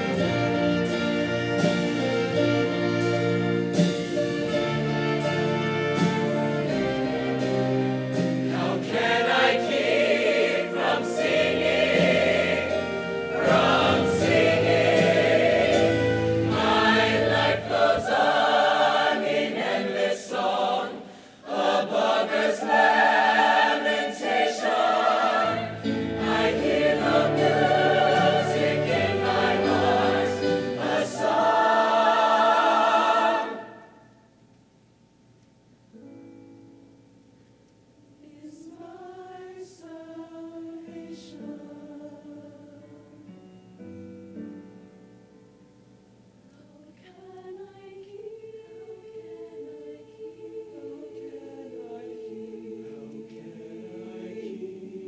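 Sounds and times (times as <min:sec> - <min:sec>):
choir singing with accompaniment: 0:00.0 - 0:34.2, 0:38.2 - 0:43.4, 0:46.6 - 0:55.0.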